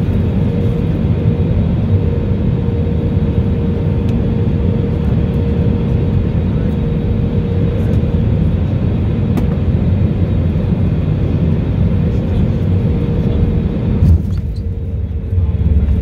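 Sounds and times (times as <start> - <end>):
aircraft engines and airflow rumble: 0.0 - 16.0.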